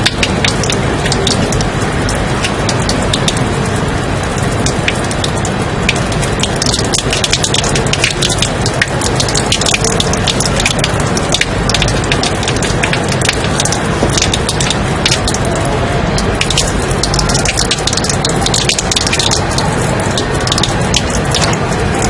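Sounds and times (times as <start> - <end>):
steady white noise hiss: 0.0 - 22.0.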